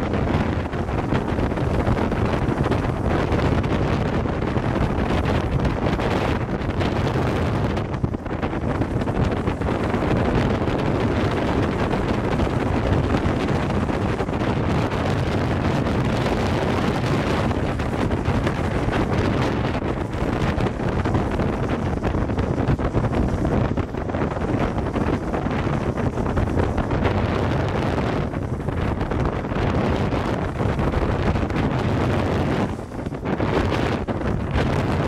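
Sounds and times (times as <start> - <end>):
car road noise: 0.0 - 35.0
wind rushing over microphone: 0.0 - 35.0.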